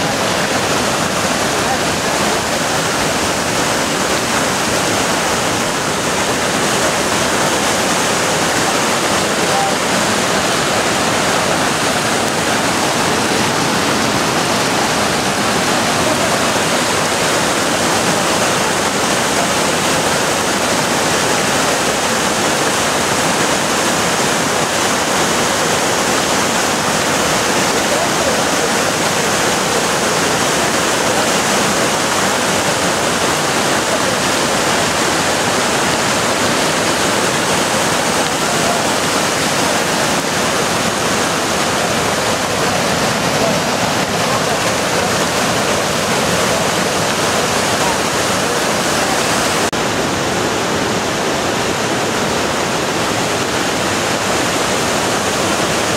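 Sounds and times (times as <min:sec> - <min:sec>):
river rushing over boulders: 0:00.0 - 0:55.9.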